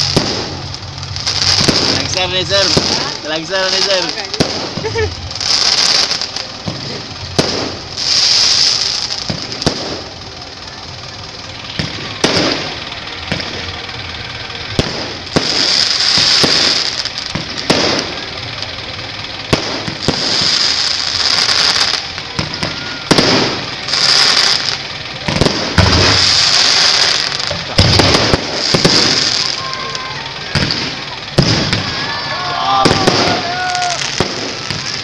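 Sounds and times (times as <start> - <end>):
fireworks bangs: 0.0 - 35.0
fireworks crackling hiss: 0.0 - 35.0.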